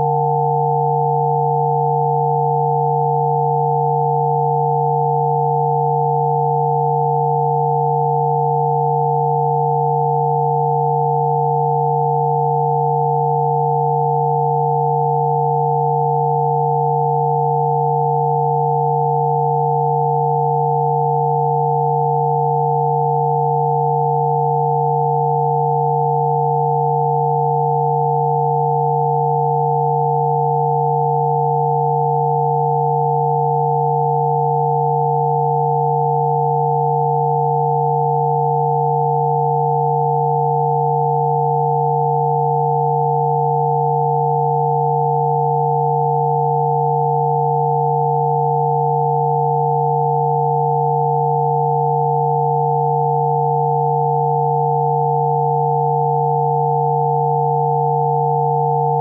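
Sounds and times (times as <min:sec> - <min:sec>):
steady sine tones: 0:00.0 - 0:59.0.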